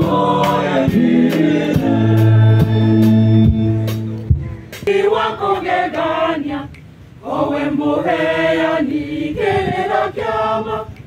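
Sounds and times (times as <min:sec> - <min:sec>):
choir singing unaccompanied: 0:00.0 - 0:11.0.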